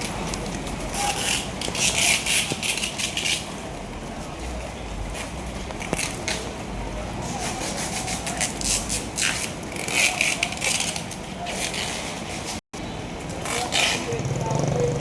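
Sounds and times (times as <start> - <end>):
faint voices: 0.0 - 15.0
vehicles: 0.0 - 15.0.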